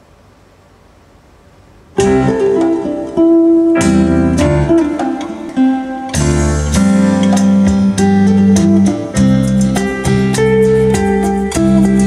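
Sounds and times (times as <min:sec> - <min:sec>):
faint steady hiss: 0:00.0 - 0:12.0
plucked notes ringing: 0:02.0 - 0:12.0.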